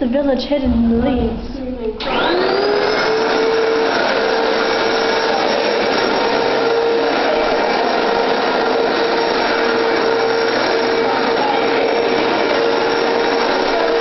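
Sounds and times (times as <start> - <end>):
vacuum cleaner running: 2.0 - 14.0.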